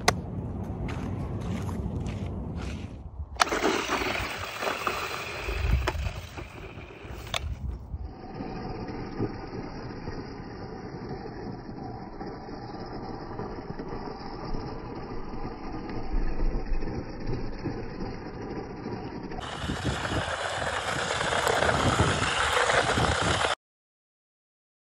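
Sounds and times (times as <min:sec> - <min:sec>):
tyres churning dirt: 0:01.3 - 0:23.6
toy truck motor running: 0:03.4 - 0:23.6.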